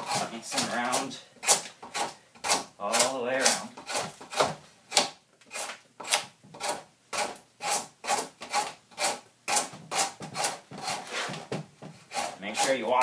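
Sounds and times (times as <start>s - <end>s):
draw knife scraping wood: 0.0s - 13.0s.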